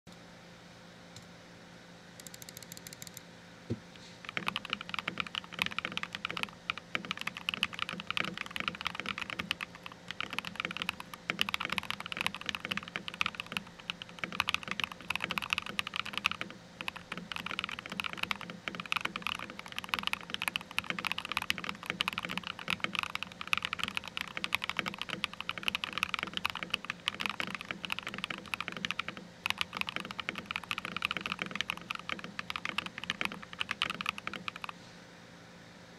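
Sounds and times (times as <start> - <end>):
mechanical keyboard typing: 2.2 - 3.2, 4.2 - 34.8.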